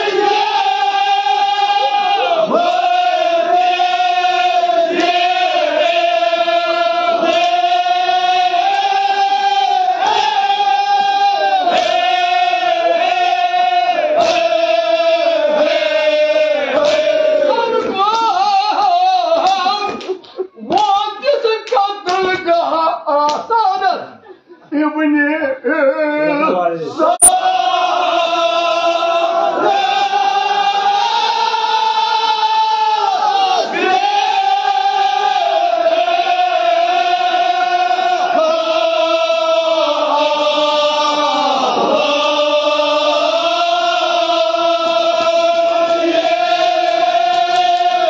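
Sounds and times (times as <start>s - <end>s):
men chanting in unison: 0.0s - 20.8s, 25.6s - 48.0s.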